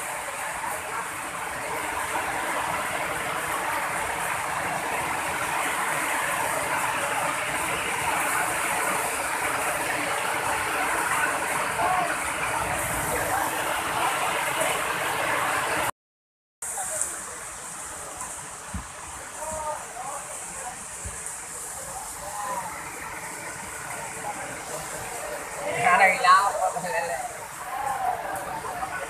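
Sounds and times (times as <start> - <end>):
heavy rain: 0.0 - 15.9, 16.6 - 29.0
river rushing over weir: 0.0 - 15.9, 16.6 - 29.0.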